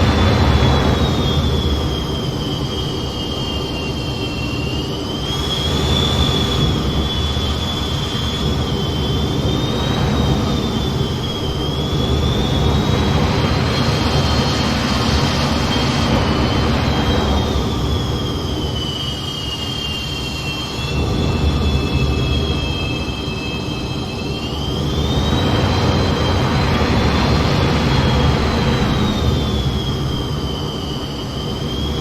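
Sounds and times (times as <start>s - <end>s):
jet engines rumbling with whine: 0.0s - 32.0s.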